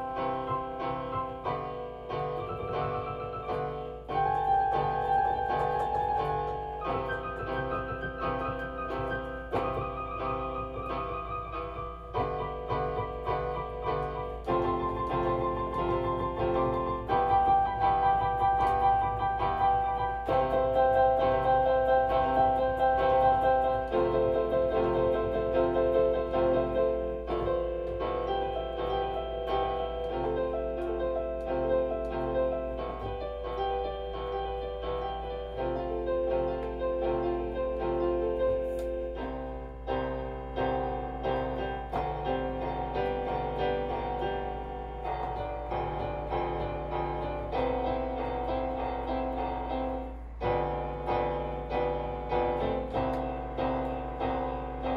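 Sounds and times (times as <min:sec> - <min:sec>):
slow gentle piano piece: 0:00.0 - 0:54.9.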